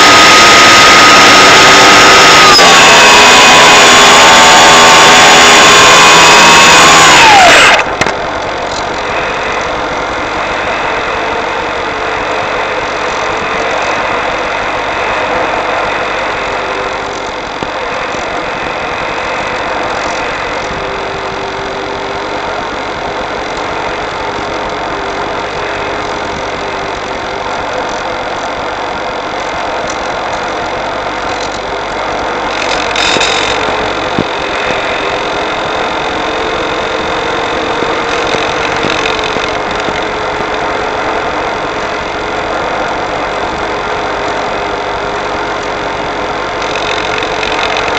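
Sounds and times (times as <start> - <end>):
faint wavering motor hum: 0.0 - 47.9.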